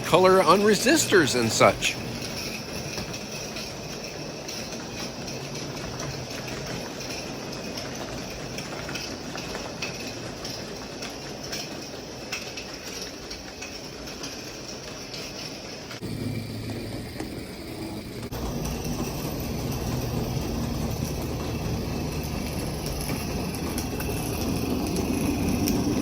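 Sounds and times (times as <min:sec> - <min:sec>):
model train rolling on track: 0:00.0 - 0:26.0
wheels clicking over rail joints: 0:00.0 - 0:26.0.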